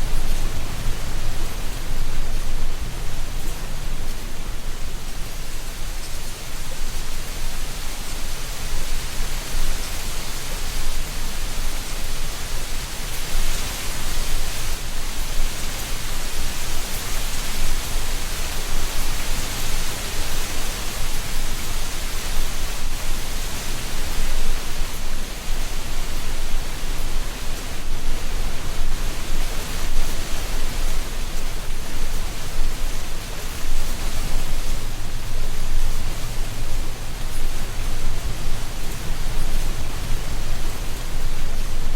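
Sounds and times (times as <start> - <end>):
wind rustling dry leaves: 0.0 - 41.9.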